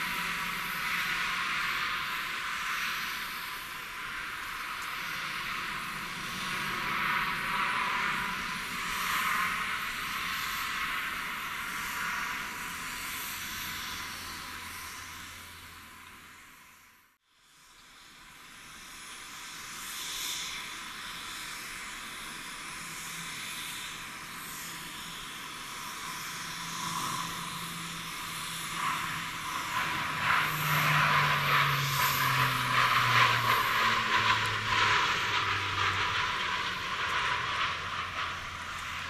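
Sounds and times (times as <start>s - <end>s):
turboprop aircraft drone: 0.0s - 39.0s.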